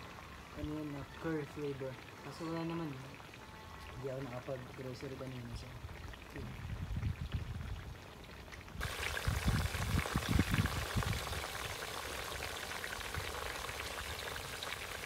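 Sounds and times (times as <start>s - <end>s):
chicken simmering in skillet: 0.0s - 15.0s.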